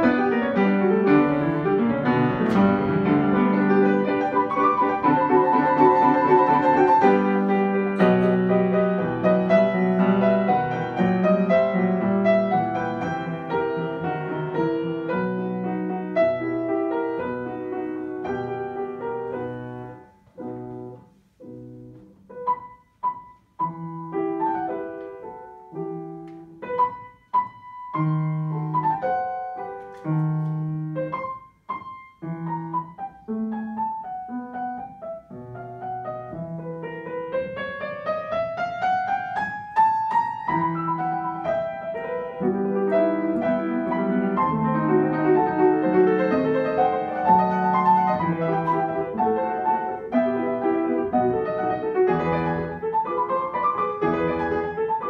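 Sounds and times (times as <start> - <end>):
piano duet: 0.0 - 55.0.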